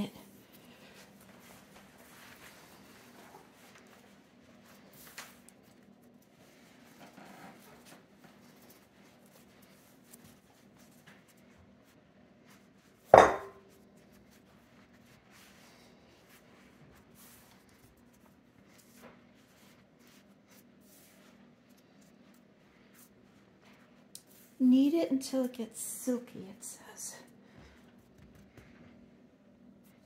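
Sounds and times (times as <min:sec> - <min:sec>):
dough pressing and rubbing: 0:00.0 - 0:25.5, 0:27.5 - 0:30.0.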